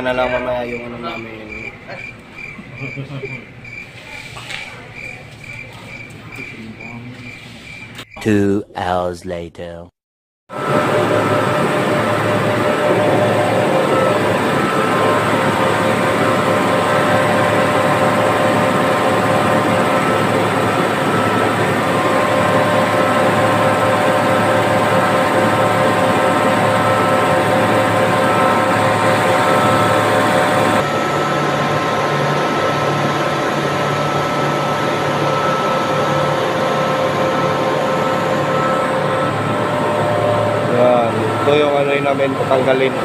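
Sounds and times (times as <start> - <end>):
refrigeration compressors running: 0.0 - 8.0, 10.5 - 43.0.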